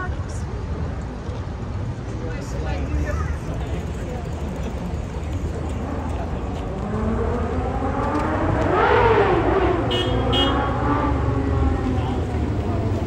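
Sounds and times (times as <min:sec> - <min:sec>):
traffic rumble: 0:00.0 - 0:13.0
motor vehicle passing: 0:02.4 - 0:13.0.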